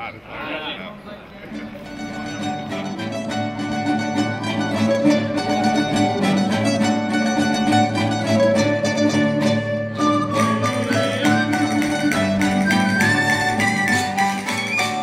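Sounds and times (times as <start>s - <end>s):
plucked strings: 1.4s - 15.0s
bowed strings: 1.5s - 15.0s.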